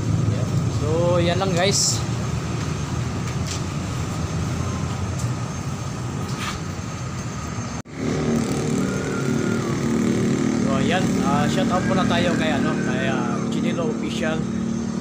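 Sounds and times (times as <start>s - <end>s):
background traffic rumble: 0.0s - 15.0s
engine-like hum: 0.0s - 15.0s.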